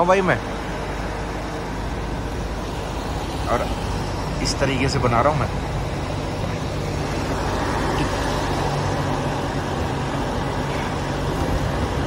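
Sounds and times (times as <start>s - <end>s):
diesel engine running: 0.0s - 12.0s
road and wind noise: 0.0s - 12.0s.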